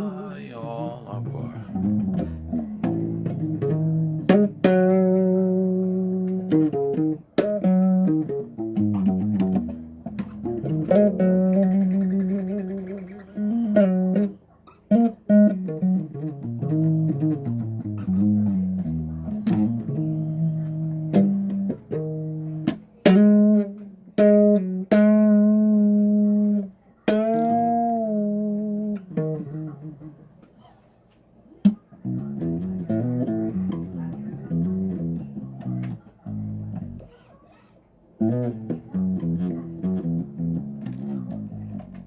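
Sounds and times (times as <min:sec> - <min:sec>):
electric bass plucked notes: 0:01.2 - 0:30.2, 0:32.0 - 0:37.1, 0:38.2 - 0:42.0.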